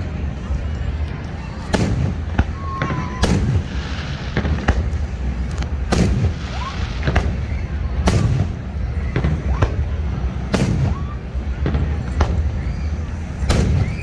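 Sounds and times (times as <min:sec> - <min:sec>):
continuous low rumble: 0:00.0 - 0:14.0
fireworks booming: 0:00.0 - 0:14.0
rockets whistling up: 0:00.0 - 0:14.0.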